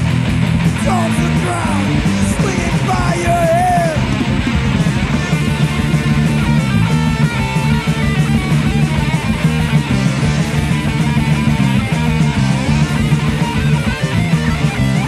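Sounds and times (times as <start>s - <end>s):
busy drum beat: 0.0s - 15.0s
distorted electric guitars: 0.0s - 15.0s.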